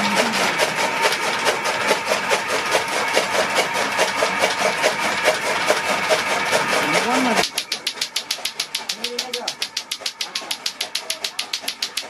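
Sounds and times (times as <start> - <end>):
chaff cutter blades chopping: 0.0 - 12.0
machine hum: 0.0 - 12.0.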